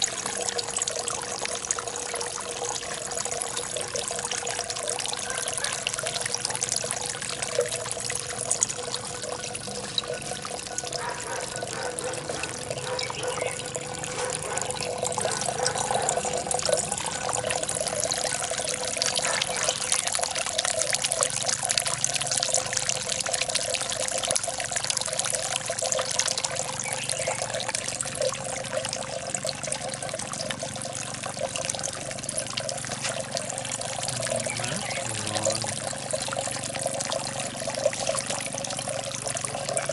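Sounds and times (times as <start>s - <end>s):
fountain water splashing into pond: 0.0s - 39.9s.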